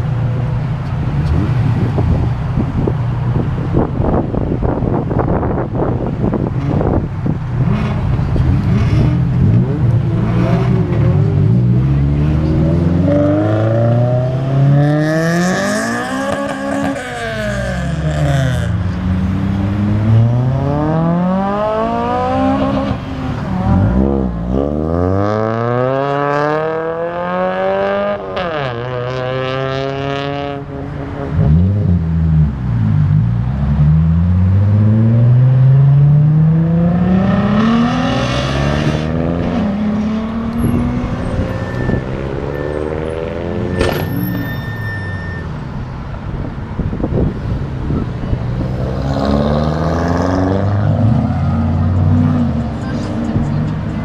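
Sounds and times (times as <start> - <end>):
cars accelerating hard: 1.0 - 45.4, 46.0 - 54.0.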